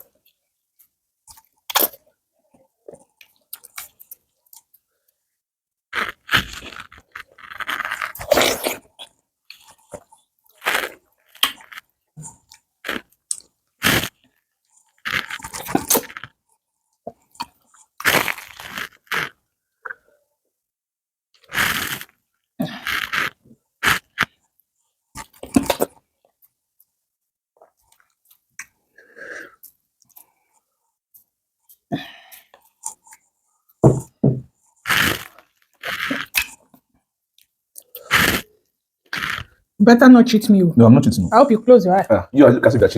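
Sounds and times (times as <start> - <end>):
people chewing food: 0.0 - 4.9, 5.9 - 20.1, 21.4 - 24.6, 25.2 - 26.5, 27.6 - 39.6.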